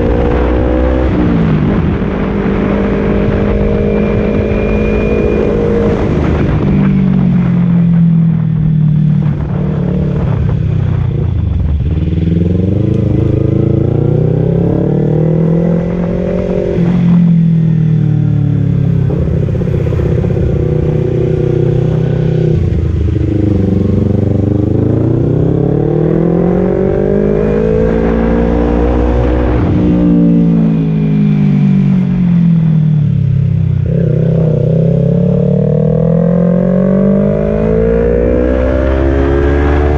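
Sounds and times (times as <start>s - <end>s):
motorcycle exhaust note accelerating: 0.0s - 39.9s.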